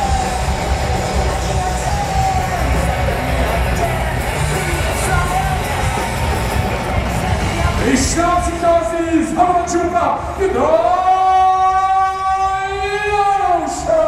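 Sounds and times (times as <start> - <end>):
loud entrance music over speakers: 0.0 - 14.0.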